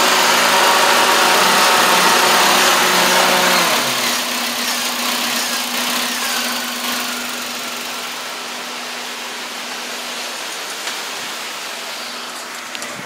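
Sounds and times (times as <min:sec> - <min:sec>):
alternator hum: 0:00.0 - 0:13.0
car engine idling: 0:00.0 - 0:13.0.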